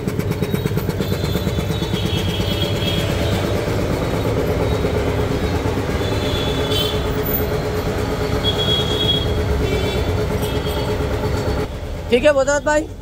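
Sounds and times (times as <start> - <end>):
air compressor pumping chug: 0.0 - 12.0.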